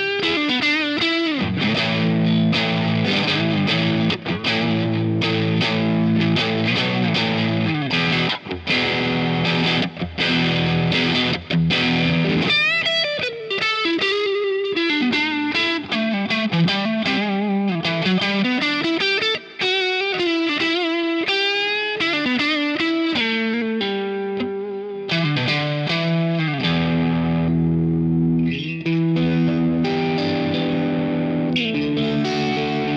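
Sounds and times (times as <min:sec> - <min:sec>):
distorted electric guitar: 0:00.0 - 0:32.9.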